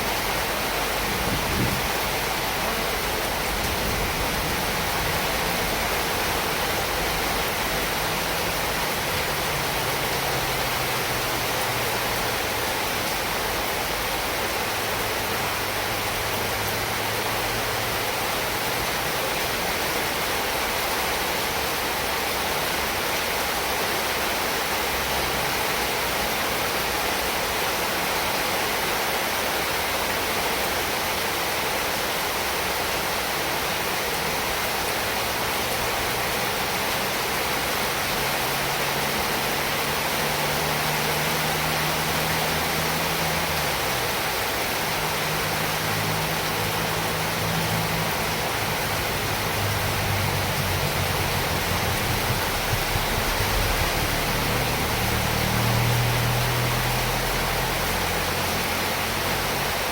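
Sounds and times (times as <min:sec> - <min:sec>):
heavy rain hissing: 0:00.0 - 0:59.9.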